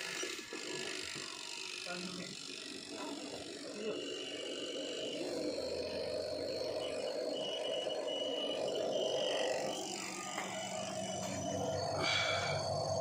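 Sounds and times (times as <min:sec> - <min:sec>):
spin dryer running: 0:00.0 - 0:13.0
timer clockwork whirring: 0:00.0 - 0:13.0.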